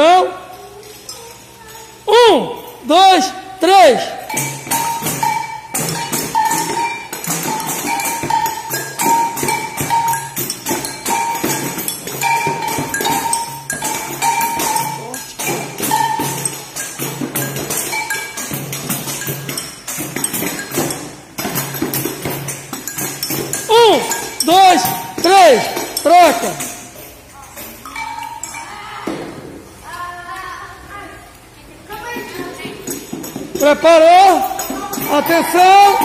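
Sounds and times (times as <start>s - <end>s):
children playing hand percussion: 0.0s - 30.0s, 31.4s - 36.0s
jingles rattling: 0.4s - 28.9s, 32.0s - 36.0s.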